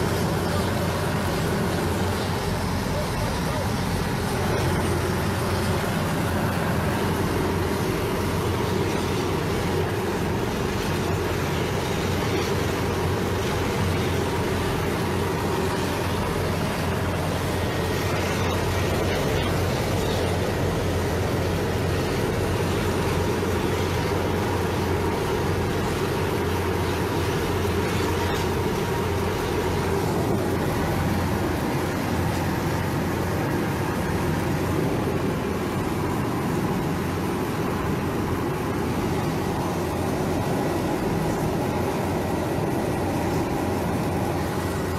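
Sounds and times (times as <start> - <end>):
helicopter cabin engine drone: 0.0 - 44.9.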